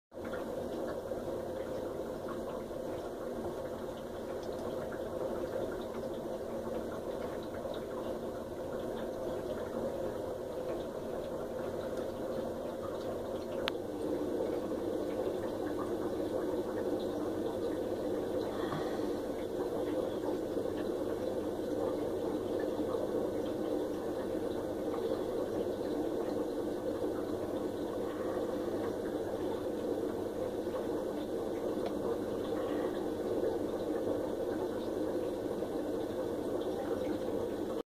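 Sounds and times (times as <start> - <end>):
aeration bubbling and hum: 0.1 - 37.8.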